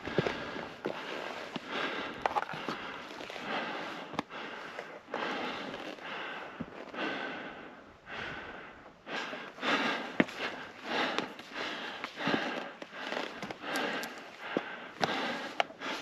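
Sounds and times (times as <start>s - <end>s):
heavy breathing: 0.0s - 16.0s.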